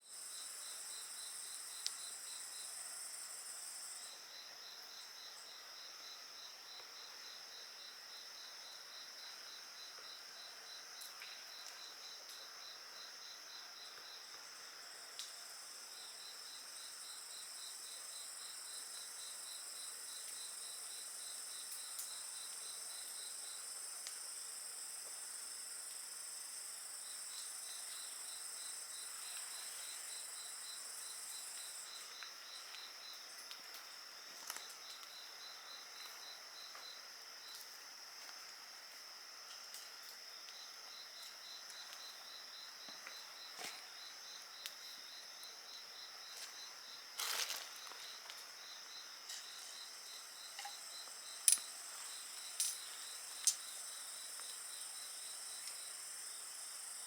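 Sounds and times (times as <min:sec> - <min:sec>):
crickets and night insects singing: 0:00.0 - 0:57.0.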